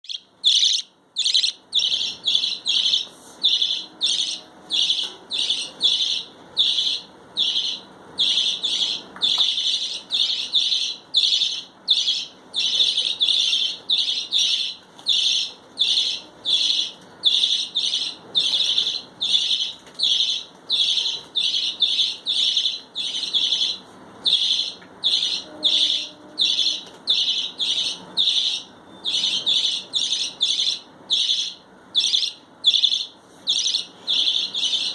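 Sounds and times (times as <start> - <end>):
budgerigars chirping: 0.1 - 34.9.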